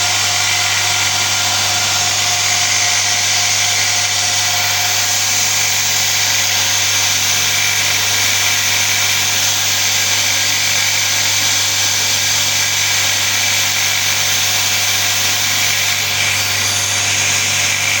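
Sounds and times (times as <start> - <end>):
belt grinder running: 0.0 - 18.0.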